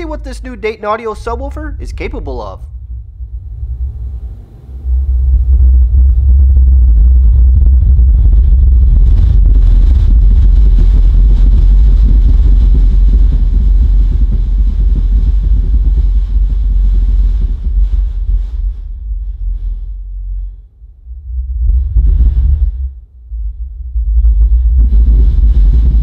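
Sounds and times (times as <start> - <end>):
subwoofer deep bass rumble: 0.0 - 26.0.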